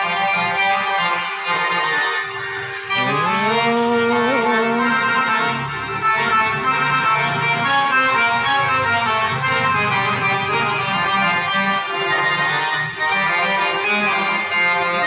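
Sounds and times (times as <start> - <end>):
accordion improvisation: 0.0 - 15.0.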